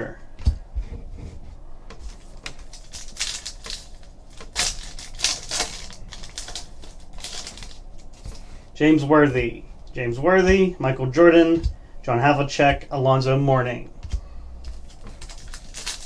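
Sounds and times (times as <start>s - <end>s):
trading cards clicking and swishing: 1.9s - 16.0s.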